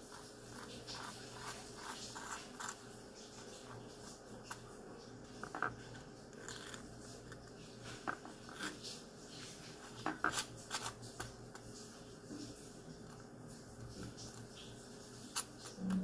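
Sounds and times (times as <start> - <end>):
spoon scraping on toast: 0.0 - 11.8, 14.0 - 16.0.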